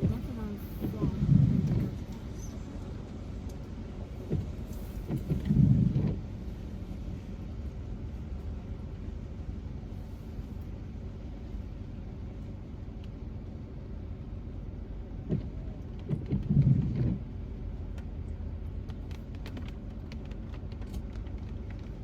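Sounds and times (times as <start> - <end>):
low rumble inside a car: 0.0 - 22.0.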